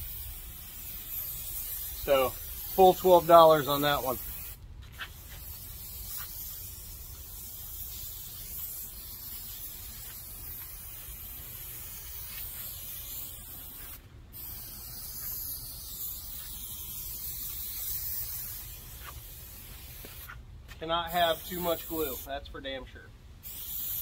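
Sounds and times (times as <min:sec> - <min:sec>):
aerosol spray can hissing: 0:00.0 - 0:20.4, 0:21.2 - 0:22.3, 0:23.4 - 0:24.0.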